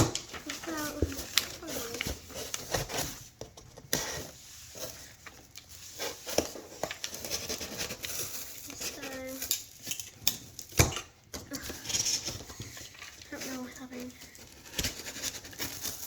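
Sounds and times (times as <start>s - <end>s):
paper and cardboard rustling: 0.0s - 16.0s.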